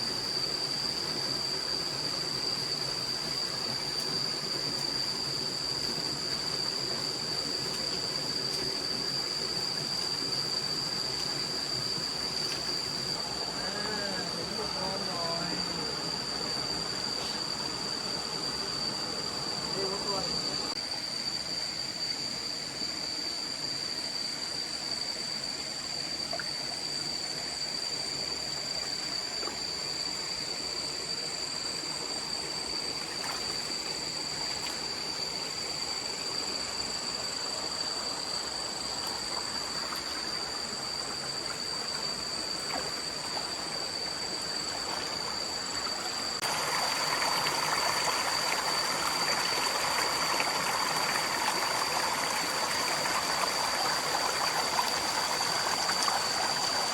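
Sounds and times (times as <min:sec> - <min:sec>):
stream water running: 0:00.0 - 0:56.9.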